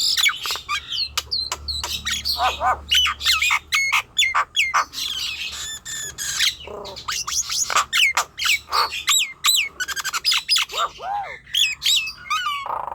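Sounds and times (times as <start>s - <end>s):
myna bird calling: 0.0s - 12.9s.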